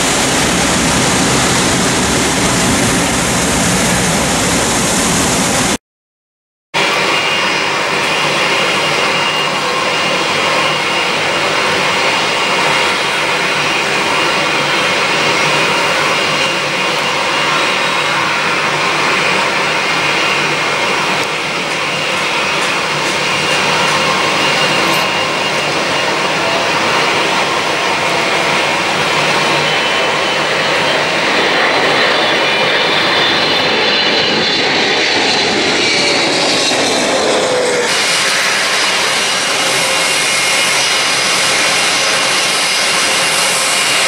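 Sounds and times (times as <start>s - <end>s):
jet engines rushing with whine: 0.0s - 5.8s, 6.8s - 44.0s.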